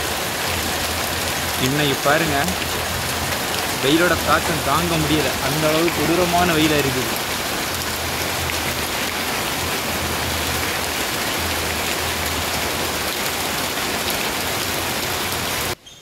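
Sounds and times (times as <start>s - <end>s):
heavy rain on leaves: 0.0s - 15.8s.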